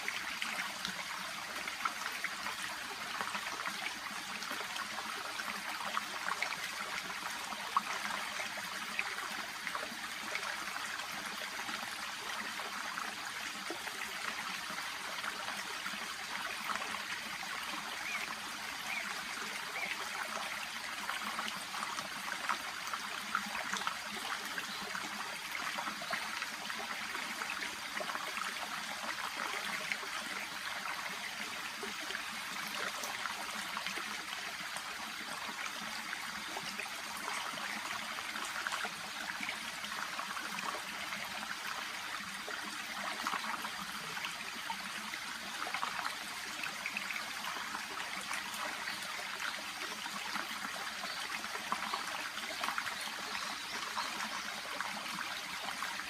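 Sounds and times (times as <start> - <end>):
brook babbling and trickling: 0.0 - 56.0.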